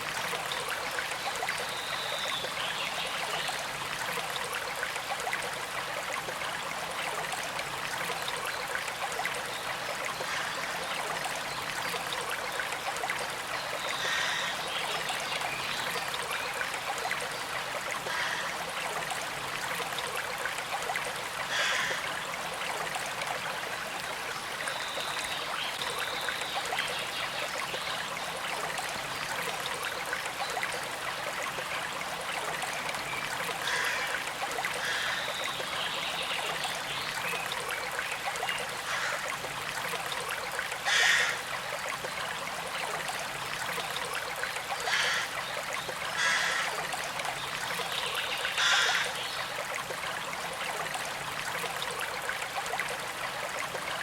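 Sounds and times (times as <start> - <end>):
creek trickling over stones: 0.0 - 54.0.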